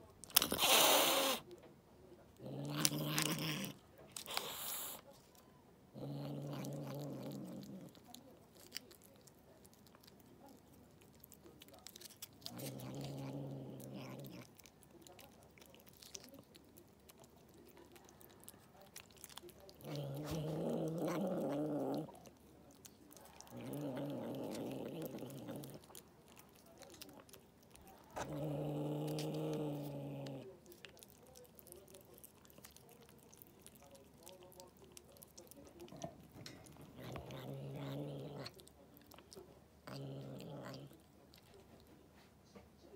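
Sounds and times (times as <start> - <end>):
cat licking and chewing: 0.0 - 1.6, 2.2 - 42.9
cat growling: 0.3 - 1.5, 2.3 - 5.1, 5.9 - 42.3.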